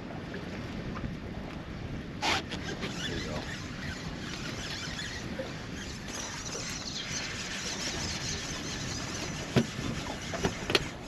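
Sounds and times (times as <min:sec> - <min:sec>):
water noise: 0:00.0 - 0:11.0
wind: 0:00.0 - 0:11.0.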